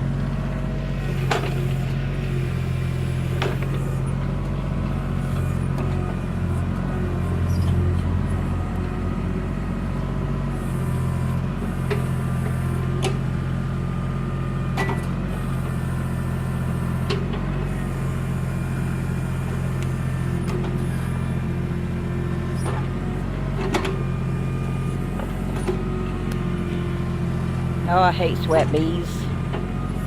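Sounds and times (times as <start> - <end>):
backhoe engine running: 0.0 - 30.0.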